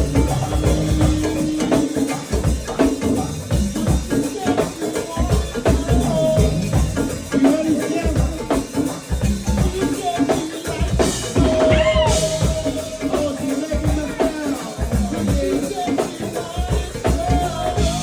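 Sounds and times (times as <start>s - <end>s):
live jazz band playing: 0.0s - 18.0s.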